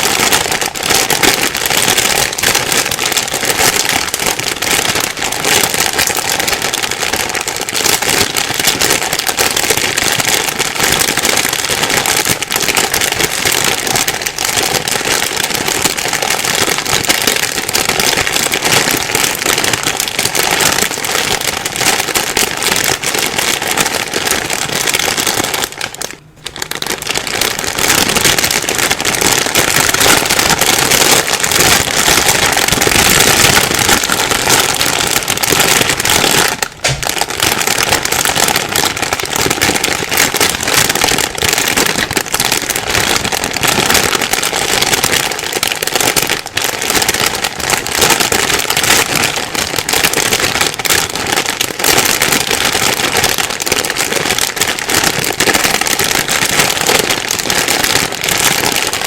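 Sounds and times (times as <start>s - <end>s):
plastic bag crinkling: 0.0s - 59.0s.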